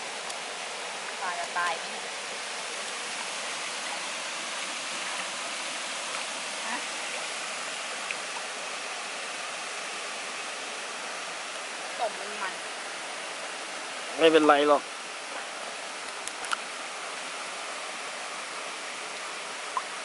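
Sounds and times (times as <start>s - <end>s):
waterfall and stream rushing: 0.0s - 20.0s.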